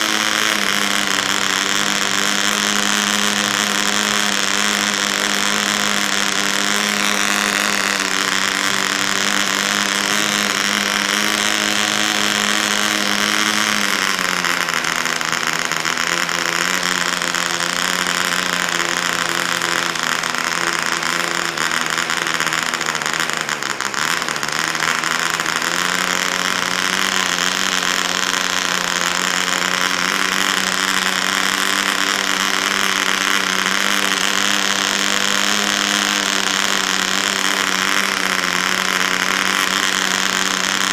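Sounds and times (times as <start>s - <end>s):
tiny model engine running at high revs: 0.0s - 40.9s.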